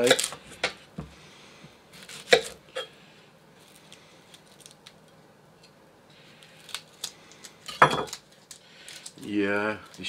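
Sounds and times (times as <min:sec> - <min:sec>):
onion skin scraping and crackling: 0:00.0 - 0:00.8, 0:01.9 - 0:02.8, 0:03.6 - 0:10.0.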